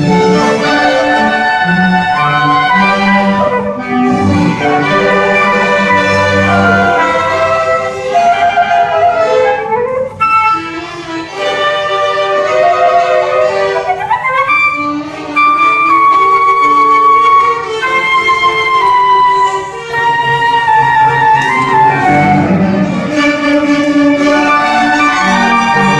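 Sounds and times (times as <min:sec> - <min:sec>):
orchestra playing held notes: 0:00.0 - 0:25.9.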